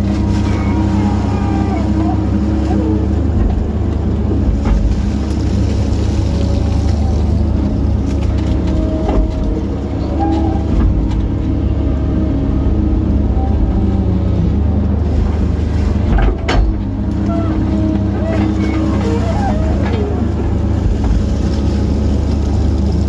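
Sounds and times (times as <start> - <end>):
excavator engine and hydraulics: 0.0 - 23.0.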